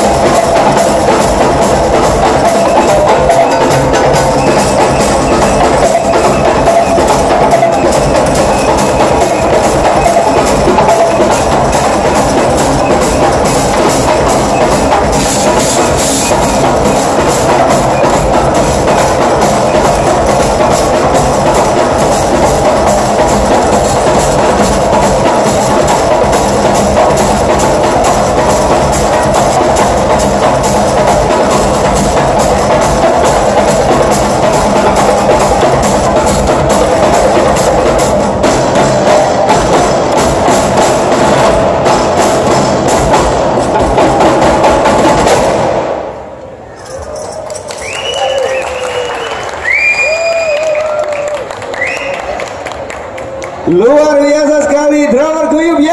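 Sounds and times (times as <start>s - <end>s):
drum ensemble playing fast: 0.0s - 52.6s, 53.6s - 55.9s.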